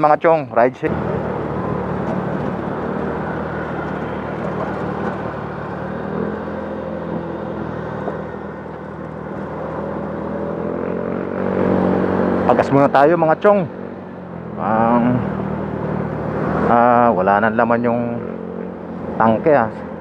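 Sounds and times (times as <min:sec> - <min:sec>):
road noise: 0:00.0 - 0:20.0
wind: 0:00.0 - 0:20.0.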